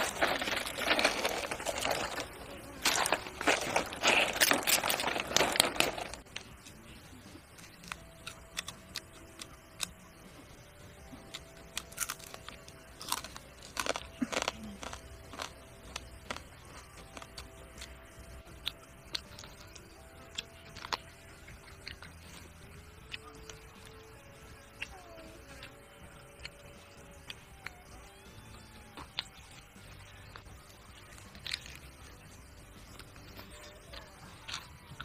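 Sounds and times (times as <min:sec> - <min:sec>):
crunching and chewing: 0:00.0 - 0:35.0.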